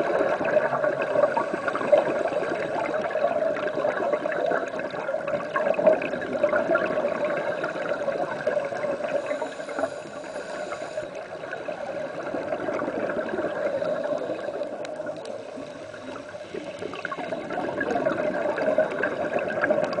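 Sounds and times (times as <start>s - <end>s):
underwater regulator bubbling: 0.0s - 20.0s.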